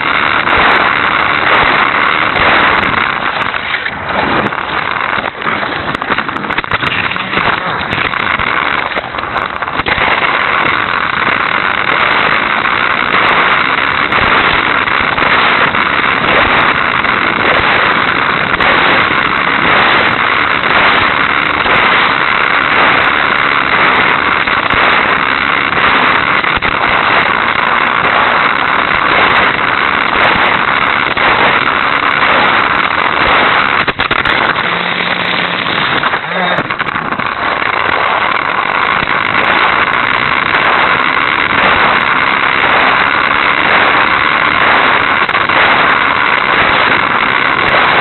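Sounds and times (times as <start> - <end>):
toy car motor buzzing whir: 0.0 - 48.0.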